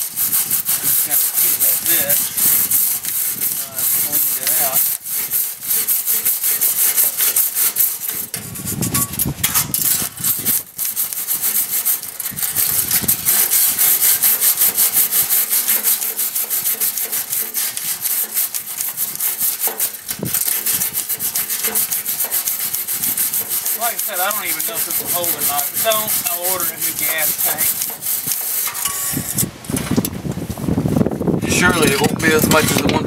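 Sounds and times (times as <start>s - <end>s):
wire brush scrubbing metal: 0.0s - 30.1s, 31.4s - 33.0s.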